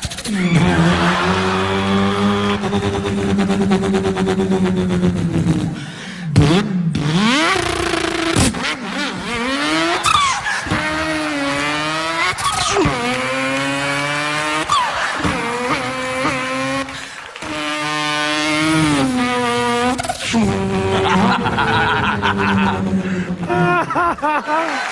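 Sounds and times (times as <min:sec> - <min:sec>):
boy imitating car engine: 0:00.0 - 0:24.2.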